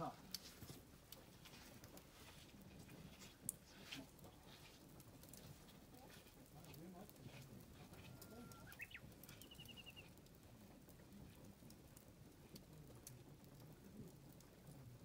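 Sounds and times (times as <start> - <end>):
faint crackling and ticking: 0.0 - 15.0.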